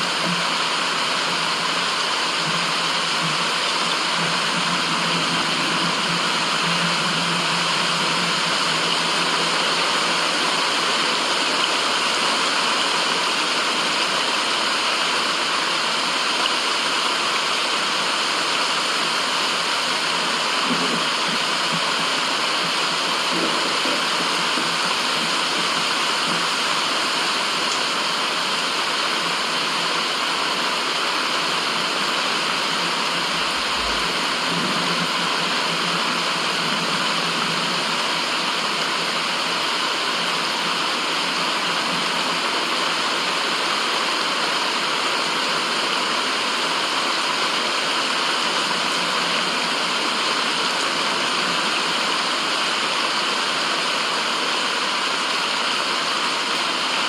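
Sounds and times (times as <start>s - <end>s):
steady rushing-water white noise: 0.0s - 57.0s.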